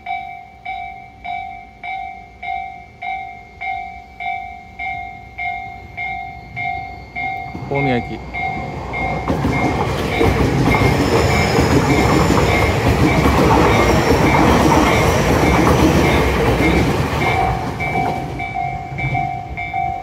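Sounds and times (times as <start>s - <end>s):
electric train passing: 0.0s - 20.0s
level crossing warning bell: 0.0s - 20.0s.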